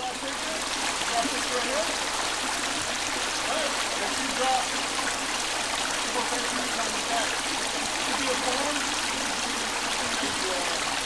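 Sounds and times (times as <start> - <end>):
creek water rushing over stones: 0.0 - 11.0.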